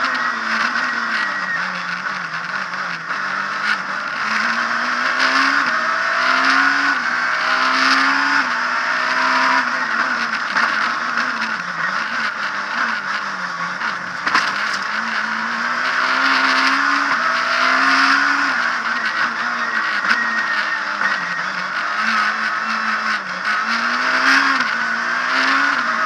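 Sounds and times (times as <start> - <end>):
rally car engine shifting gears: 0.0 - 26.0
tyre and road noise: 0.0 - 26.0.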